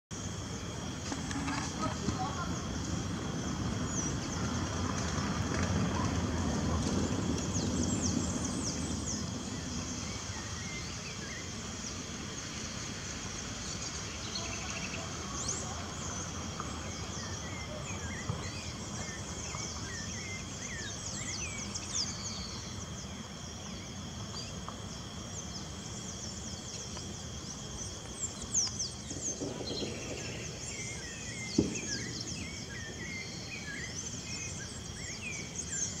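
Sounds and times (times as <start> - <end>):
birds chirping: 0.1 - 36.0
high insect drone: 0.1 - 36.0.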